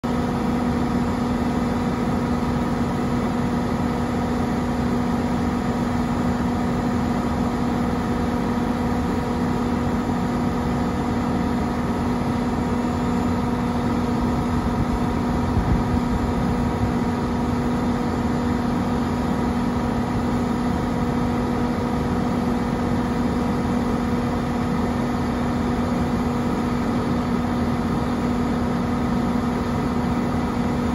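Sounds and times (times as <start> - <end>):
refrigeration machinery drone: 0.0 - 30.9.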